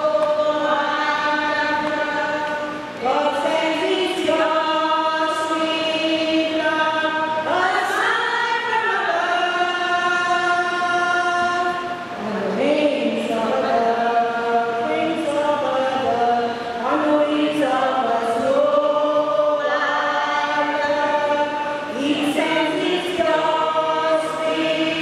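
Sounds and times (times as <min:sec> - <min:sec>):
slow hymn singing: 0:00.0 - 0:25.0.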